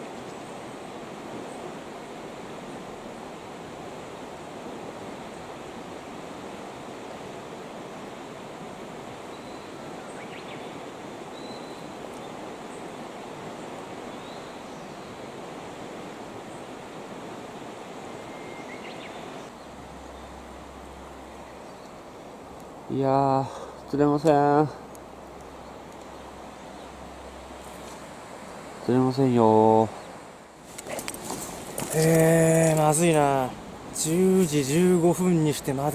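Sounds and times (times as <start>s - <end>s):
river rushing over stones: 0.0s - 35.9s.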